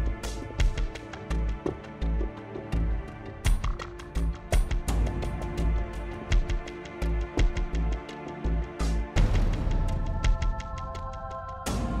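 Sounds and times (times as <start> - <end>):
music with sustained notes: 0.0 - 12.0.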